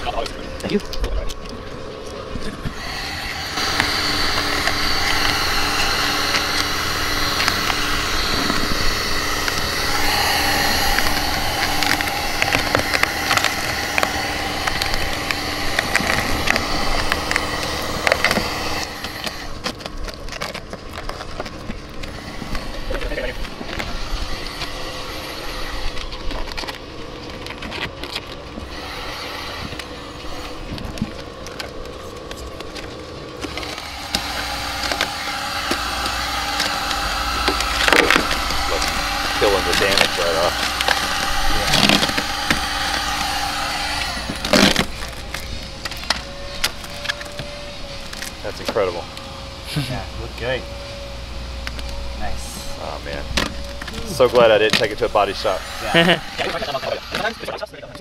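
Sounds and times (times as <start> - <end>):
heat gun blower hum: 0.0 - 58.0.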